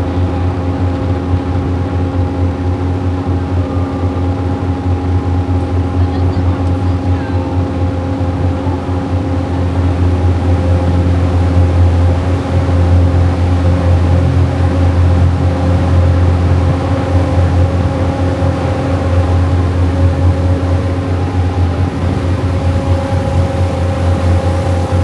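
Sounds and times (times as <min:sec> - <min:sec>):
boat engine drone: 0:00.0 - 0:25.0
higher engine hums: 0:00.0 - 0:25.0.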